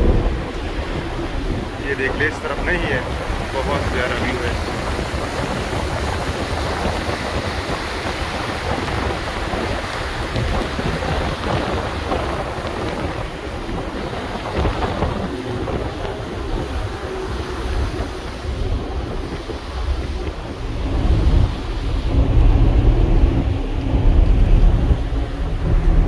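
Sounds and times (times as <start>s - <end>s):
rushing water of ship's wake: 0.0s - 26.0s
wind buffeting microphone: 0.0s - 26.0s.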